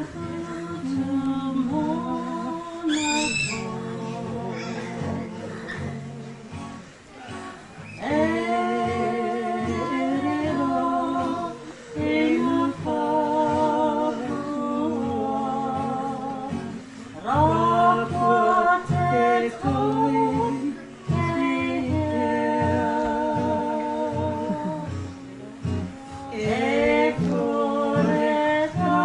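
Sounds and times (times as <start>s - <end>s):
person singing slow song: 0.0s - 29.0s
plucked acoustic guitar: 0.0s - 29.0s.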